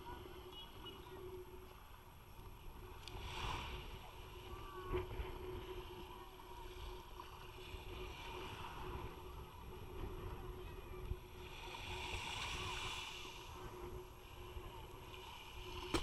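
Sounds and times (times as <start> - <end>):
faint steady hum: 0.0 - 16.0
small waves lapping on beach: 0.0 - 16.0.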